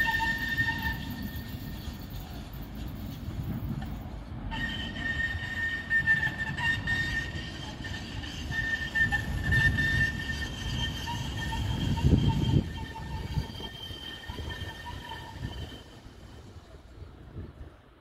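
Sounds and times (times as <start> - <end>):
tram wheels squealing: 0.0 - 17.2
tram low rumble: 0.0 - 18.0.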